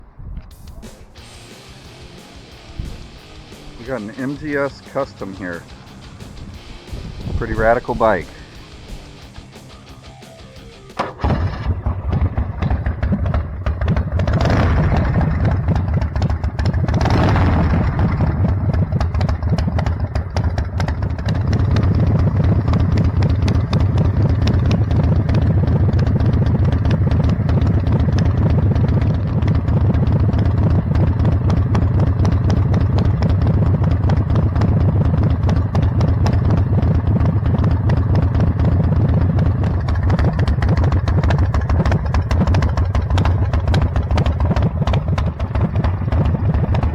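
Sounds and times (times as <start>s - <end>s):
motorcycle engine revving and idling: 1.2s - 46.9s.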